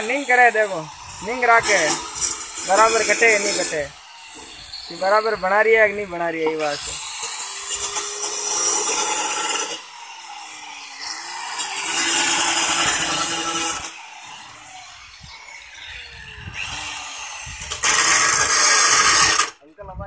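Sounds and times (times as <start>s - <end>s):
electric cutter grinding metal: 0.0s - 19.6s
motor whine: 0.0s - 19.6s.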